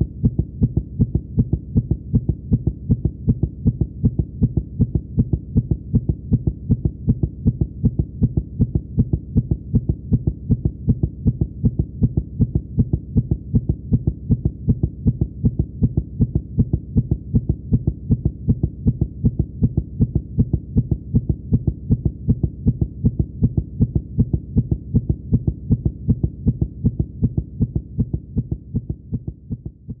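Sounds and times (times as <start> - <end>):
fast heartbeat thumps: 0.0 - 30.0.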